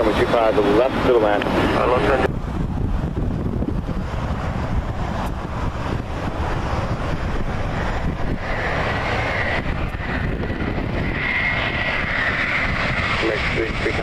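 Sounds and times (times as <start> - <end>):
high engine whine: 0.0 - 14.0
jet engines rumbling: 0.0 - 14.0.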